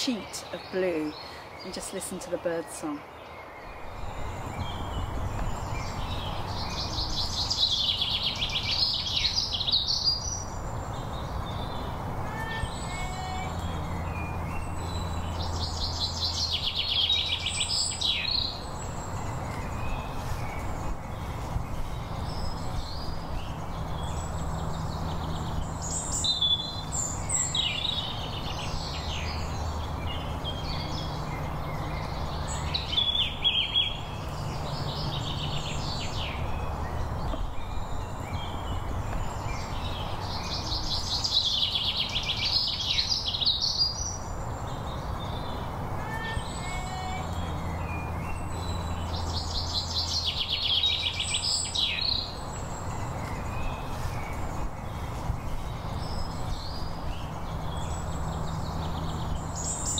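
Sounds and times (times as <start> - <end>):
songbirds trilling: 0.0 - 59.9.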